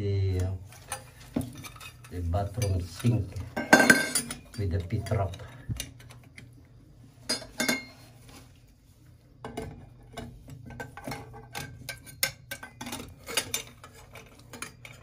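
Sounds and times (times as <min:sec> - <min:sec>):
metal pipe parts clinking: 0:00.4 - 0:06.5, 0:07.3 - 0:08.0, 0:09.5 - 0:15.0.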